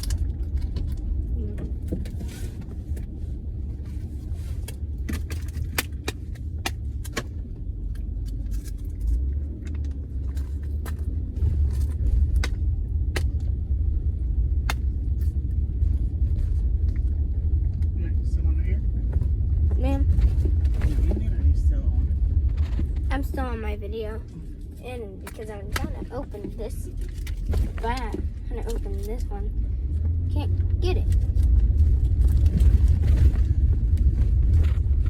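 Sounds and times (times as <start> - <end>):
car cabin road rumble: 0.0 - 35.0.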